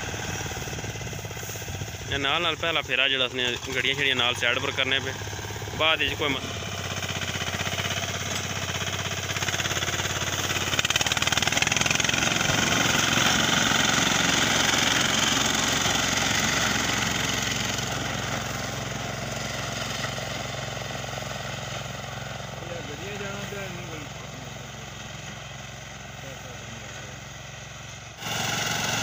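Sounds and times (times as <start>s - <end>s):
reaper engine running: 0.0s - 29.0s.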